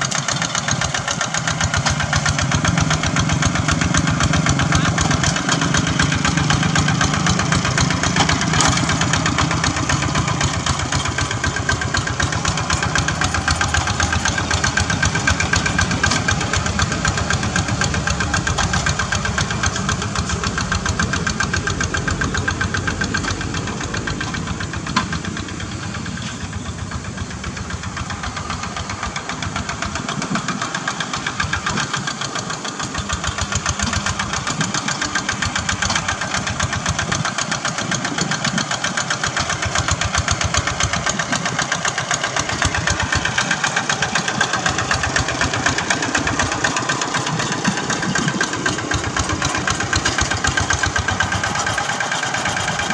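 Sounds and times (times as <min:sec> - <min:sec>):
diesel engine firing beat: 0:00.0 - 0:52.9.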